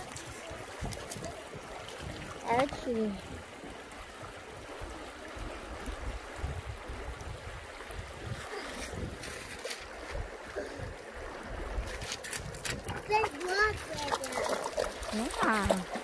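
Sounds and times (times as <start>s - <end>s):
creek running over stones: 0.0s - 16.0s
light water splashes: 0.0s - 16.0s
wind buffeting microphone: 0.0s - 16.0s.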